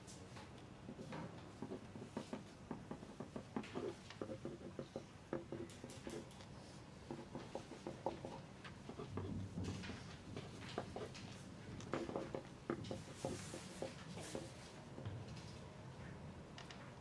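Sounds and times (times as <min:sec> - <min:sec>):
small irregular taps and clicks: 0:00.3 - 0:15.2, 0:16.5 - 0:17.0
pencils writing on paper: 0:00.8 - 0:15.0.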